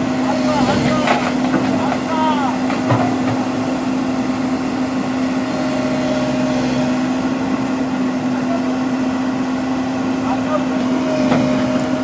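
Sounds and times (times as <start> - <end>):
excavator diesel engine humming: 0.0 - 12.0.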